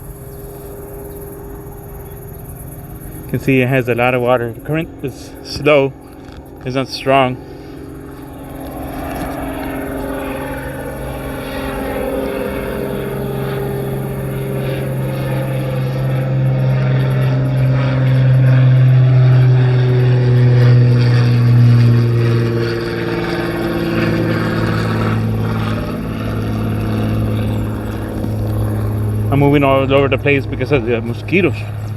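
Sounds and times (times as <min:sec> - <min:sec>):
motor humming: 0:00.0 - 0:31.9.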